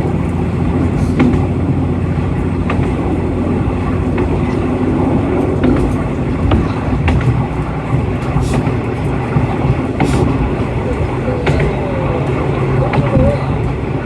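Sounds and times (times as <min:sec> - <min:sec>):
diesel railcar engine drone: 0:00.0 - 0:14.0
wheels clicking over rail joints: 0:00.0 - 0:14.0.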